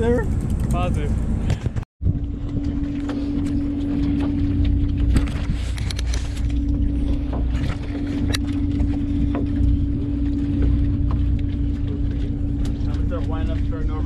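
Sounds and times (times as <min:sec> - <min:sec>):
boat engine rumbling: 0:00.0 - 0:14.0.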